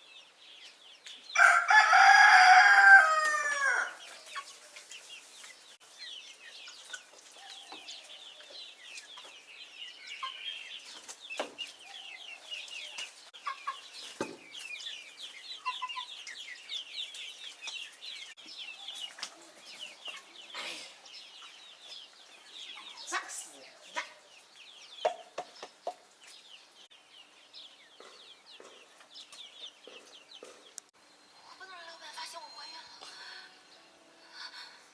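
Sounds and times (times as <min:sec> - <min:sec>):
chicks peeping: 0:00.0 - 0:32.3.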